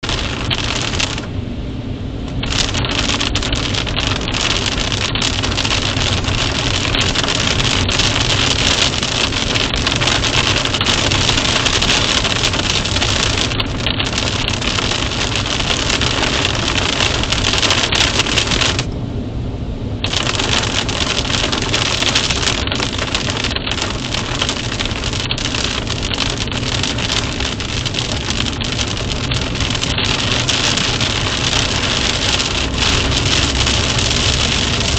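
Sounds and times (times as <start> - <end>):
steady rain: 0.0 - 19.0, 19.9 - 34.9.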